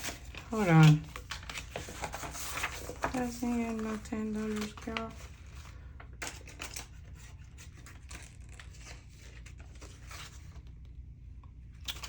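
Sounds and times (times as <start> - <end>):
paper rustling: 0.0 - 10.8.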